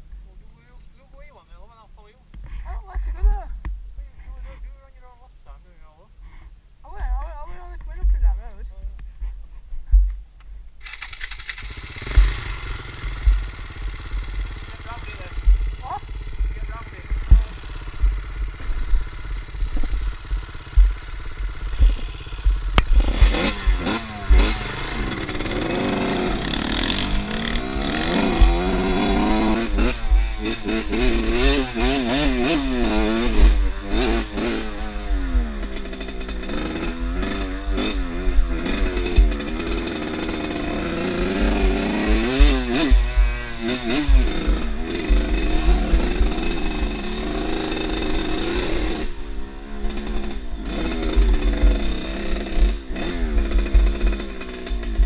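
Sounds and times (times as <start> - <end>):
motorcycle engine revving: 10.8 - 55.0.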